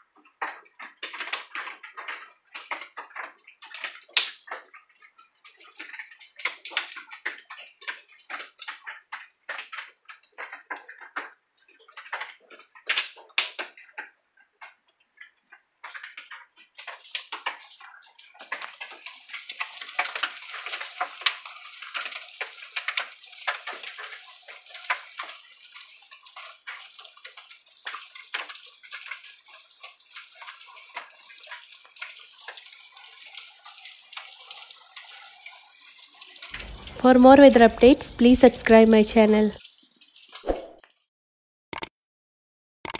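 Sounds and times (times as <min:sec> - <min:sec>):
hail and rain on wooden deck: 0:00.2 - 0:37.0.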